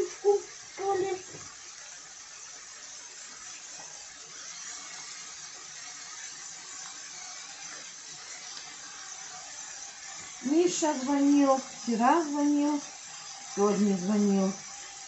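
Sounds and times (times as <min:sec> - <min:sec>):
fat and onion sizzling in a pan: 0:00.0 - 0:15.0.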